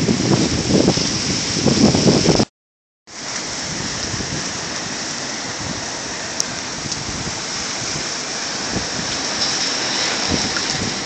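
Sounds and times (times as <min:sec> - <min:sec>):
heavy rain on pavement: 0:00.0 - 0:02.5, 0:03.1 - 0:11.0.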